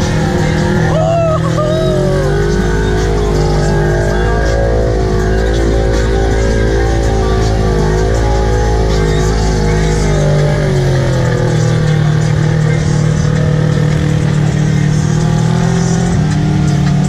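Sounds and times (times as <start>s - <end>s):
driving through muddy water: 0.0s - 17.0s
vehicle engine under throttle: 0.0s - 17.0s.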